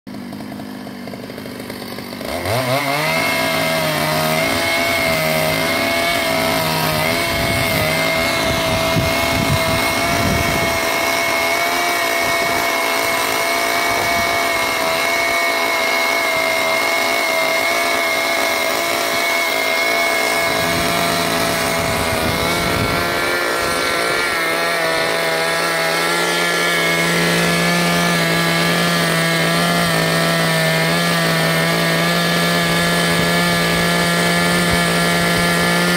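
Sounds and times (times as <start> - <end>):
chainsaw running at high revs: 0.1 - 35.9.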